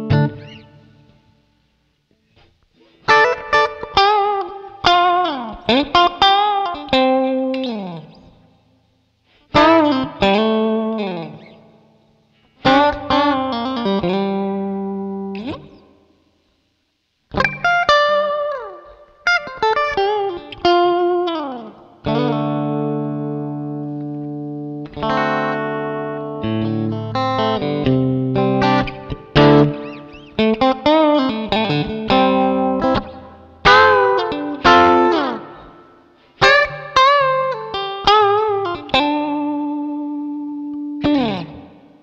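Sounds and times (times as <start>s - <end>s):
clean electric guitar with reverb: 0.0s - 16.7s, 17.3s - 42.0s.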